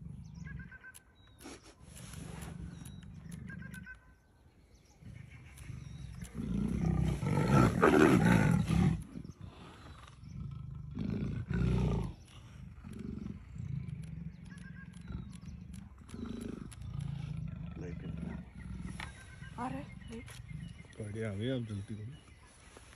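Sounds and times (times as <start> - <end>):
leopard snarling and growling: 0.0 - 0.7, 1.5 - 3.9, 4.9 - 22.0.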